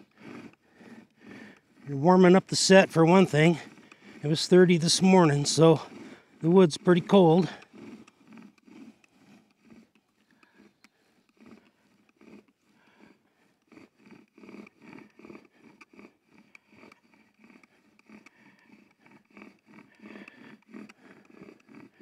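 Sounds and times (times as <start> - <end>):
bow sawing back and forth: 0.0 - 22.0
wooden spindle grinding and squeaking: 0.0 - 22.0.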